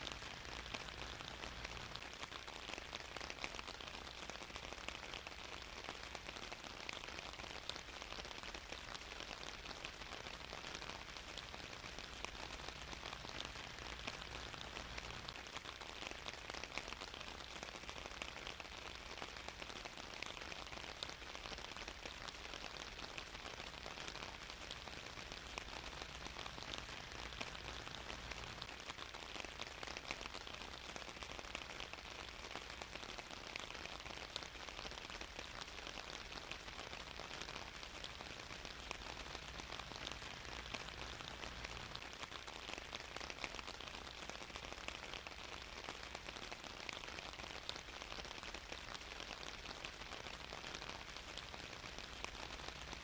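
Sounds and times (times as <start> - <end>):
rain pattering on a surface: 0.0 - 53.0.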